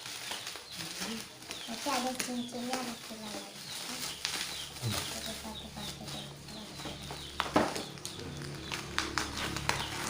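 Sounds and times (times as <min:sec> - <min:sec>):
packaging crackling and rustling: 0:00.0 - 0:10.0.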